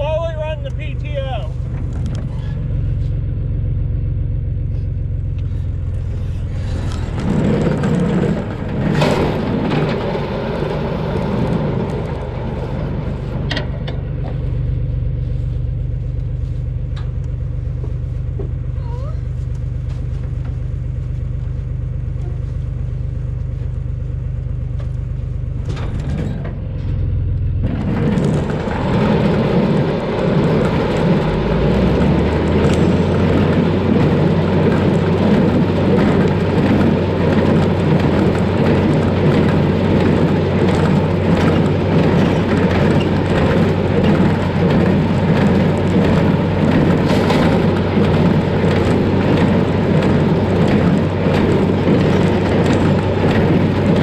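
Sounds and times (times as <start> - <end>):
straw baler running: 0.0 - 54.0
tractor engine running: 0.0 - 54.0.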